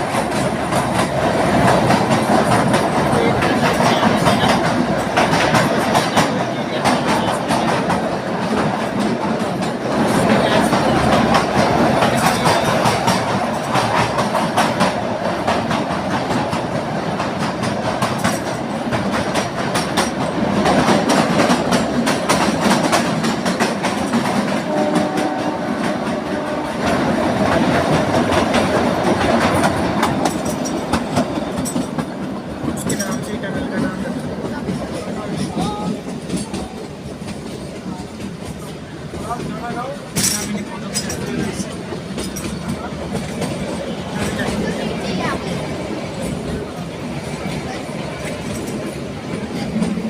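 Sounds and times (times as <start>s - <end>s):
train wheels clattering over rail joints: 0.0s - 50.0s.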